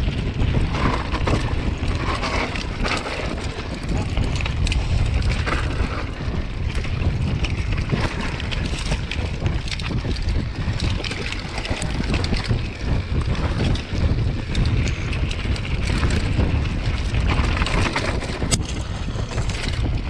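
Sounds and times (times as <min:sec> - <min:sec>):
bike clicks and rattles: 0:00.0 - 0:20.0
tyres rumbling on dirt: 0:00.0 - 0:20.0
wind buffeting microphone: 0:00.0 - 0:20.0.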